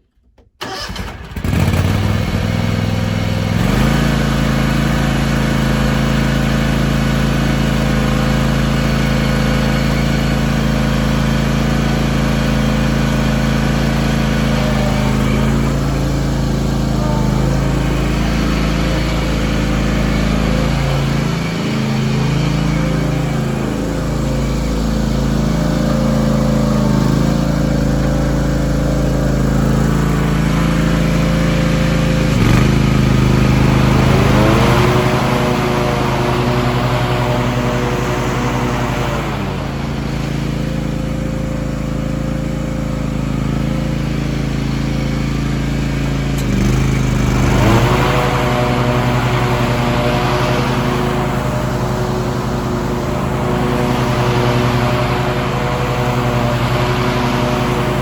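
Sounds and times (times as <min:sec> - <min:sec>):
garden tractor engine running: 0:00.2 - 0:58.0.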